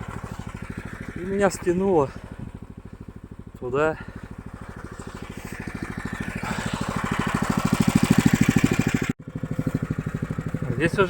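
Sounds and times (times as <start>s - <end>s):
snow tow engine running: 0.0s - 11.0s.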